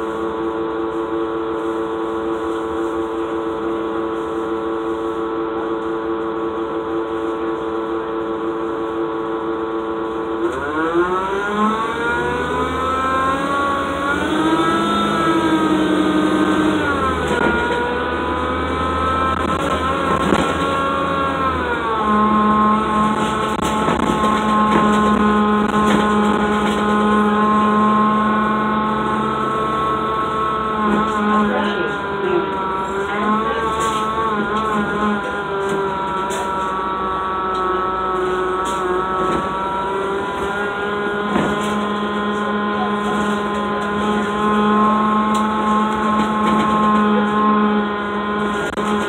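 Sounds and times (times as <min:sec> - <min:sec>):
bus diesel engine: 0:00.0 - 0:49.0.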